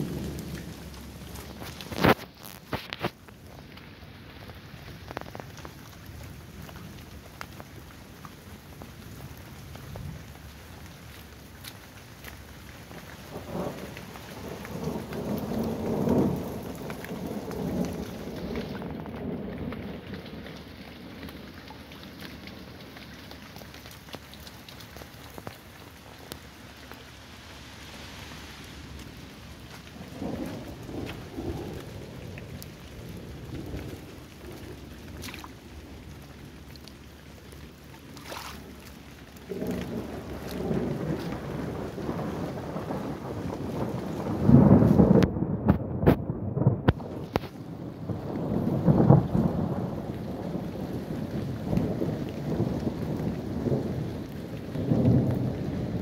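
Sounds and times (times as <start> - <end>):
thunder rumbles: 0.0 - 7.3, 12.8 - 23.7, 27.7 - 36.8, 37.5 - 56.0
heavy rain pouring: 0.0 - 56.0.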